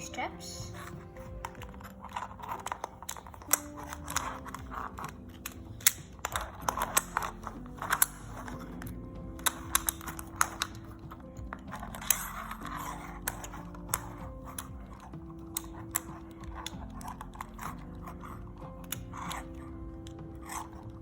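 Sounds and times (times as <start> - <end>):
soft background music: 0.0 - 21.0
plastic toy pieces clicking: 0.8 - 21.0.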